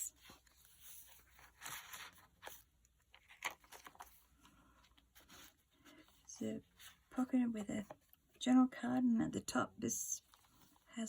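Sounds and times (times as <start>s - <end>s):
paper pages rustling: 0.1s - 8.3s, 10.2s - 10.9s.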